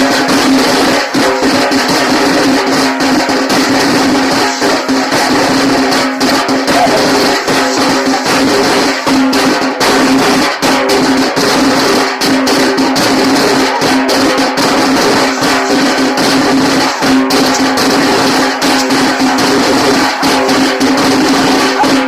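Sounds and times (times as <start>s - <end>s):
tasa drums played fast: 0.0s - 22.0s.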